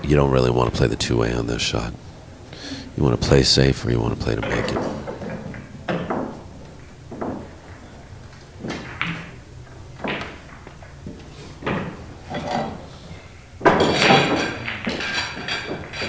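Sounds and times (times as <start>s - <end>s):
pool balls clattering: 0.0s - 16.0s
pool balls knocking: 3.0s - 16.0s.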